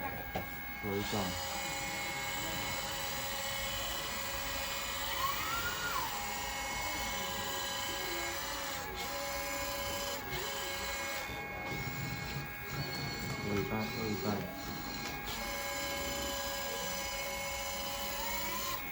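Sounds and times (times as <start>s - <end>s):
hydraulic pump whining: 0.0s - 18.9s.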